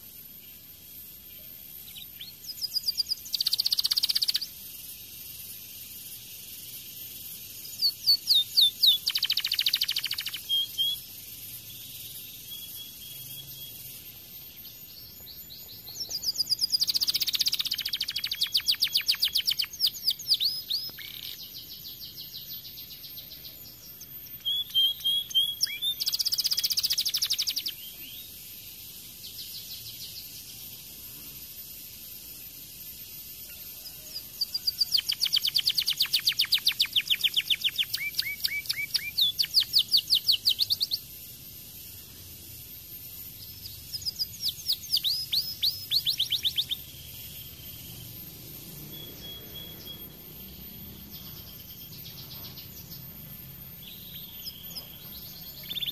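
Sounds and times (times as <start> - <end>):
canary singing trills: 0.0 - 30.8, 31.8 - 55.9.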